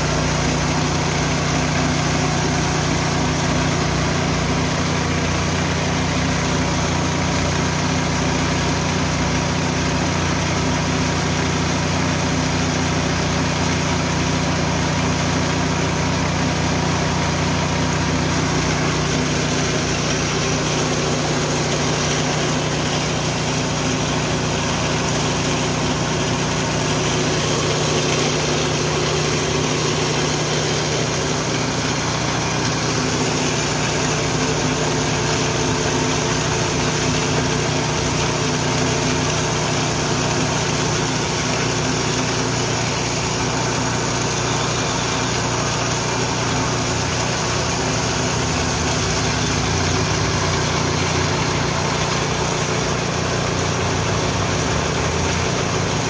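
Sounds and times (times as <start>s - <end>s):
milling machine running: 0.0s - 56.0s.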